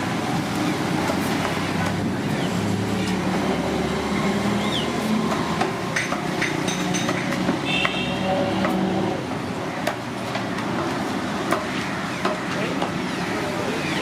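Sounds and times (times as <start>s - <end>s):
vehicle engines humming: 0.0s - 14.0s.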